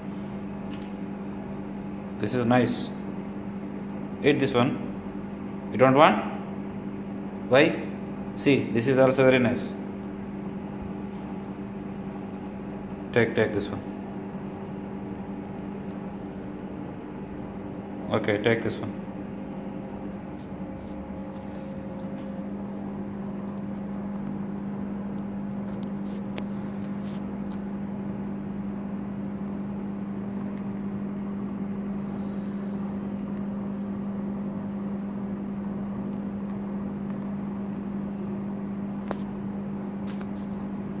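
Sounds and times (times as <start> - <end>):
appliance mechanical hum: 0.0 - 41.0.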